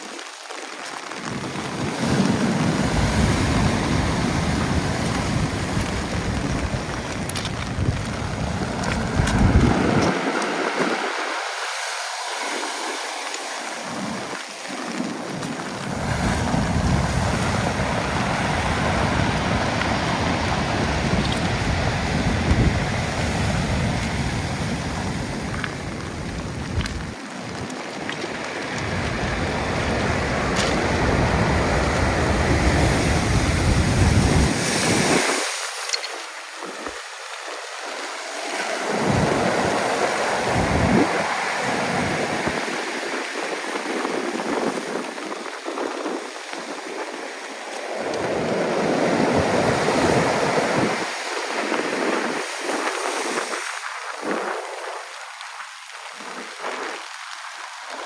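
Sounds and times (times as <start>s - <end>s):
waves breaking on shore: 0.0s - 58.0s
wind buffeting microphone: 1.1s - 58.0s.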